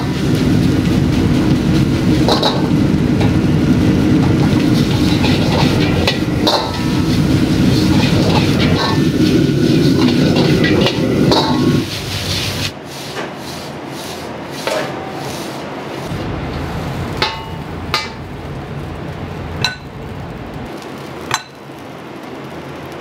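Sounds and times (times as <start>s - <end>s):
food frying in a wok: 0.0s - 23.0s.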